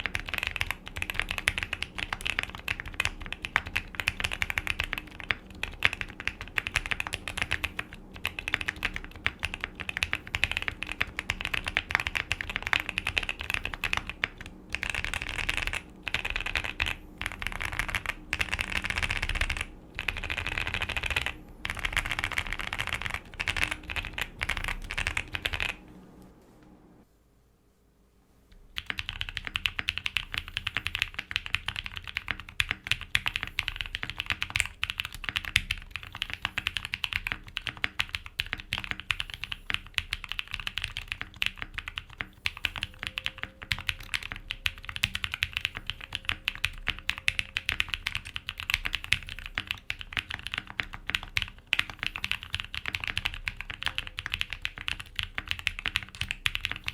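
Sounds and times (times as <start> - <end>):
fast mechanical keyboard typing: 0.0 - 25.9, 28.6 - 56.9.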